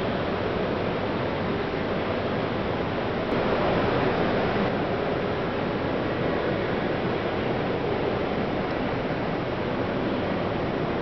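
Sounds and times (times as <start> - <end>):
steady rushing noise: 2.1 - 11.0.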